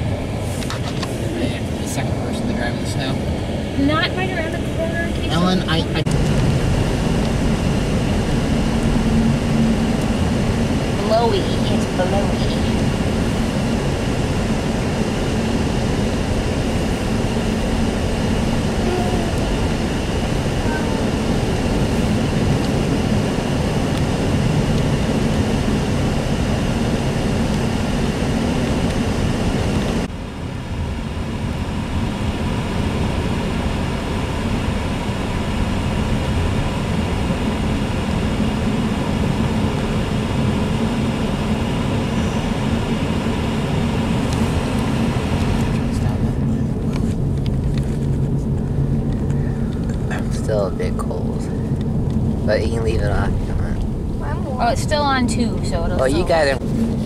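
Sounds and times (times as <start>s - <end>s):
car cabin road and engine noise: 0.0s - 57.0s.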